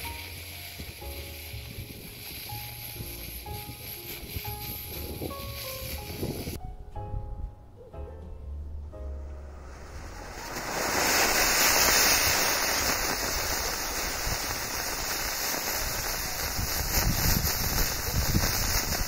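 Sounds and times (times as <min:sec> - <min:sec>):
rocket motor crackling hiss: 0:00.0 - 0:06.6, 0:09.3 - 0:19.0.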